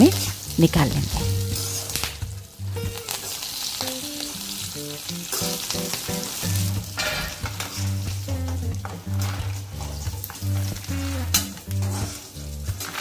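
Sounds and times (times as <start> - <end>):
frying in hot oil: 0.0 - 13.0.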